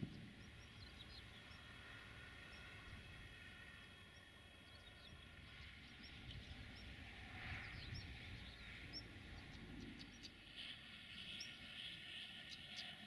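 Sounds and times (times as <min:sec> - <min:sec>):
faint birdsong chirps: 0:00.0 - 0:13.0
low wind rumble: 0:00.0 - 0:13.0.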